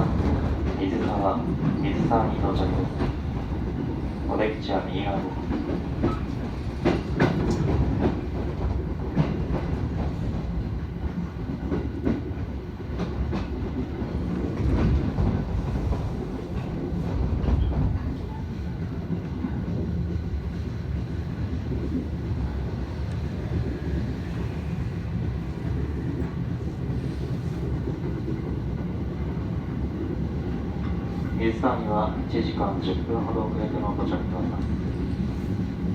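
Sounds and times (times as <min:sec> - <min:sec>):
train rumbling on rails: 0:00.0 - 0:35.9.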